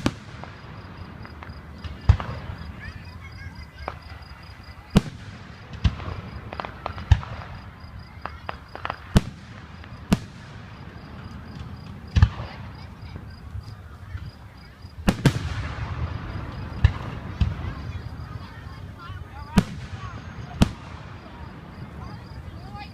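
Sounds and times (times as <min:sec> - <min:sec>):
fireworks bangs: 0:00.0 - 0:22.9
small firework cracks: 0:00.0 - 0:22.9.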